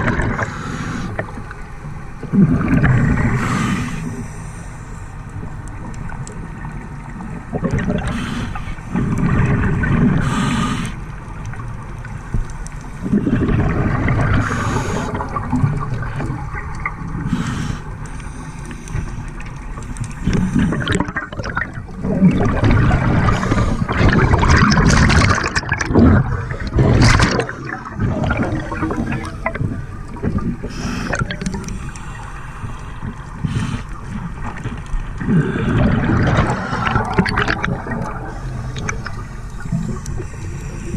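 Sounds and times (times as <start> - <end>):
scuba exhaled bubbles gurgling: 0.0 - 40.9.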